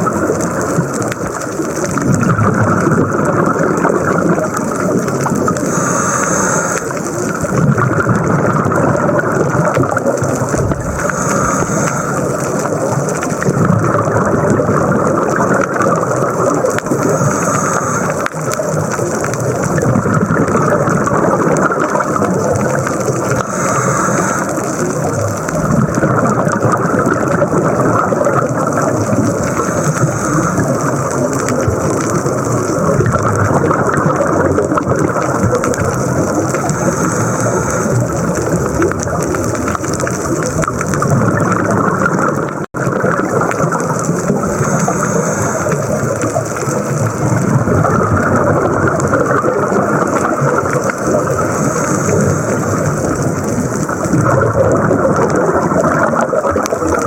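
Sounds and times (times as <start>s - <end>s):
exhaled bubbles bursting: 0.0s - 57.0s
rumbling hiss of water: 0.0s - 57.0s.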